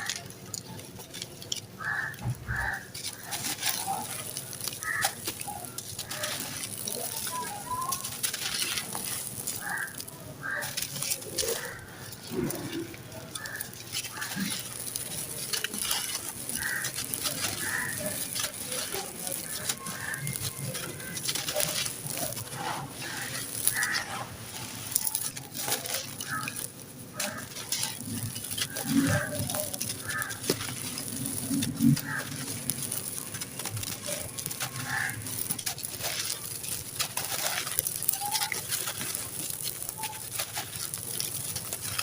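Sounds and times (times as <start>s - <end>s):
sand-cement chunks crumbling: 0.0s - 42.0s.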